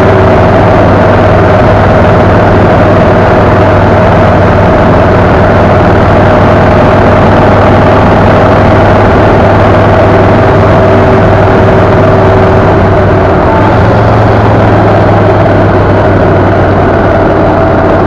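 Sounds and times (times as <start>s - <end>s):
engine drone: 0.0s - 18.0s
wind and road noise: 0.0s - 18.0s.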